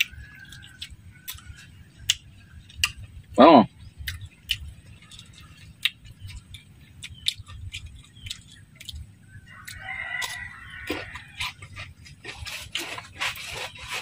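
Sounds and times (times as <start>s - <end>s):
chewing crispy food: 0.0s - 14.0s.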